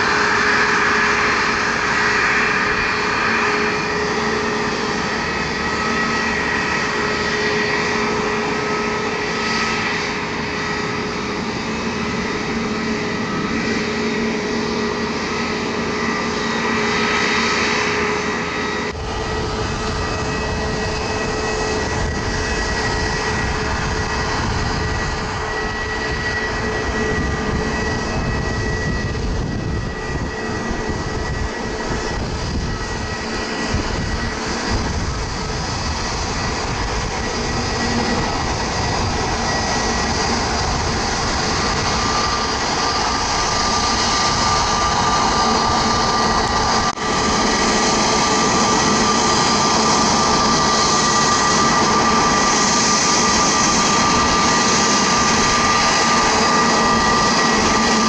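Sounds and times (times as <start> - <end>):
jet engines running: 0.0 - 58.0
steady whine: 0.0 - 58.0.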